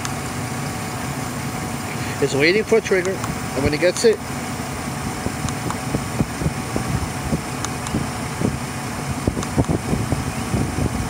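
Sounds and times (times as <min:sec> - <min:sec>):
engine idling with low pulses: 0:00.0 - 0:11.0.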